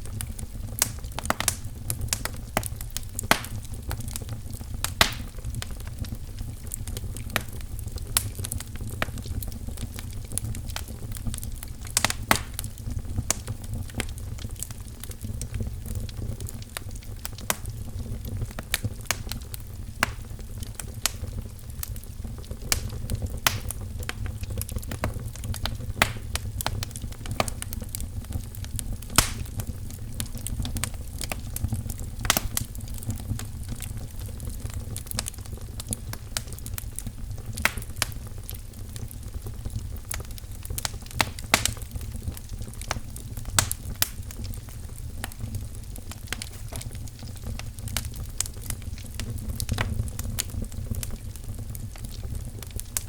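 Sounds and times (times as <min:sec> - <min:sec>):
fire snaps and pops: 0:00.0 - 0:53.0
wood fire crackling: 0:00.0 - 0:53.0.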